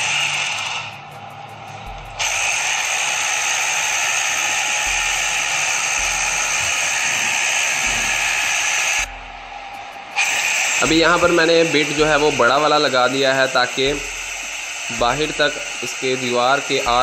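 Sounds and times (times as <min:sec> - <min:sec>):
hammer drill boring into wall: 0:02.2 - 0:09.1, 0:10.2 - 0:17.0.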